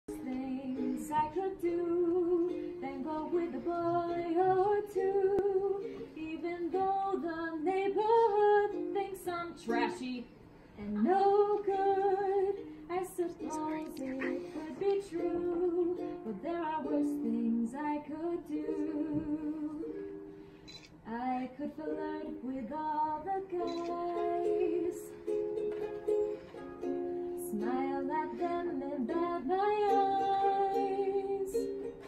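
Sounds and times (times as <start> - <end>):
ukulele strumming: 0.1 - 10.2, 11.0 - 20.6, 21.2 - 32.0
woman singing: 0.1 - 20.2, 21.0 - 25.4, 27.3 - 31.9.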